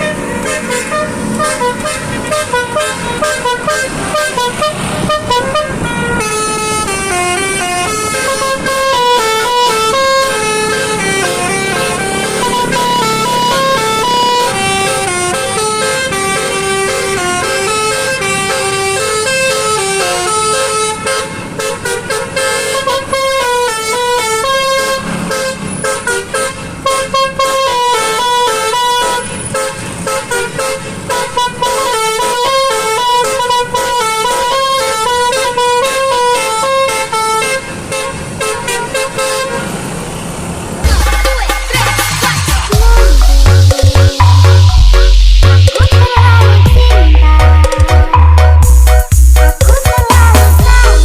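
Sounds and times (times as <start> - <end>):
musical car horn melody: 0.0 - 39.7, 40.8 - 51.0.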